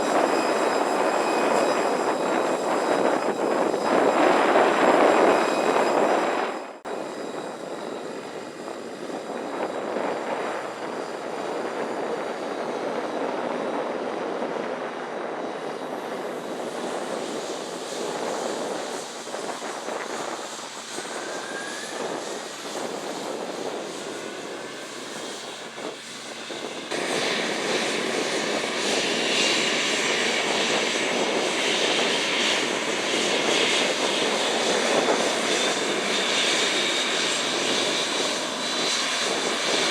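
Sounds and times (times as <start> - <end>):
aircraft engine noise: 0.0 - 39.9
jet engine whine: 0.0 - 39.9.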